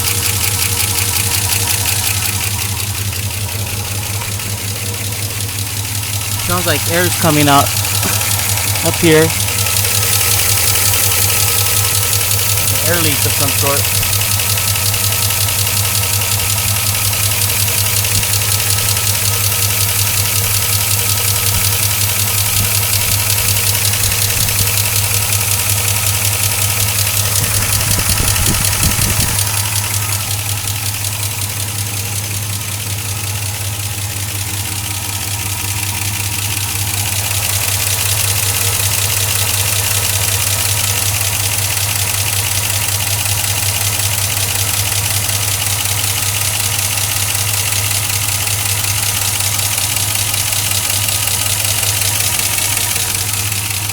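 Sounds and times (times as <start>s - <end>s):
loud rapid ticking: 0.0s - 53.9s
truck engine idling: 0.0s - 53.9s.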